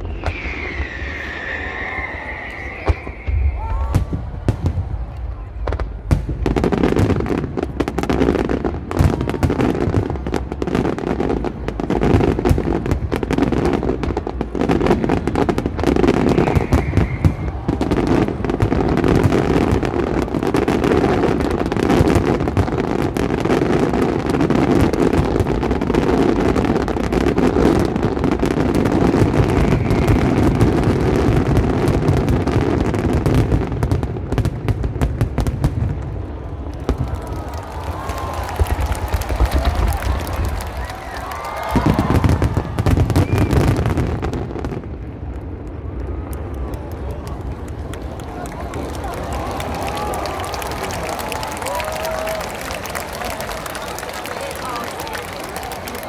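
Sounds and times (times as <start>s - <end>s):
fireworks bursts and bangs: 0.0s - 56.0s
fireworks crackle: 0.0s - 56.0s.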